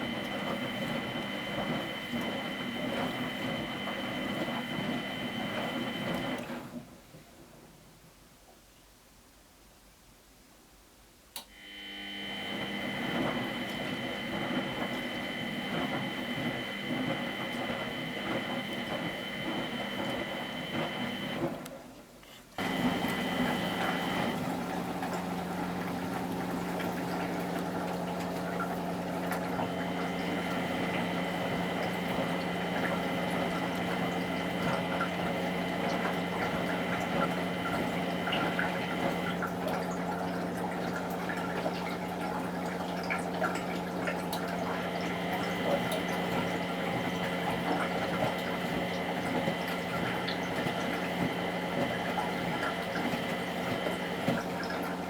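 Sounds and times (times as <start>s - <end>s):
steady machine hum: 0.0s - 6.4s, 11.6s - 21.5s, 22.6s - 41.2s, 44.4s - 55.0s
water rushing into washing machine: 0.0s - 7.0s, 11.5s - 22.0s, 22.6s - 55.0s.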